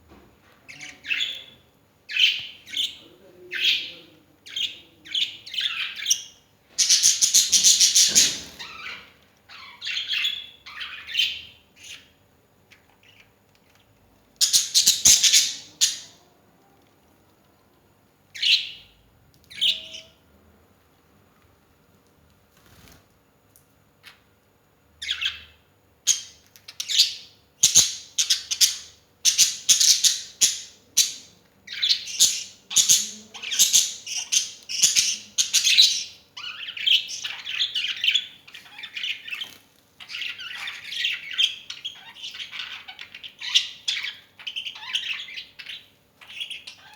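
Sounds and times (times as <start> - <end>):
pet birds squawking and chirping: 0.7 - 16.2, 18.3 - 20.2, 25.0 - 46.9.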